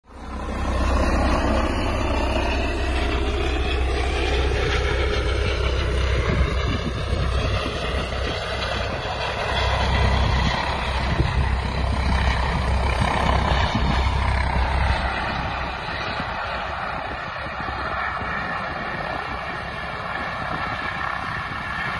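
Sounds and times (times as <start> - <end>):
helicopter flying low past: 0.1 - 21.9.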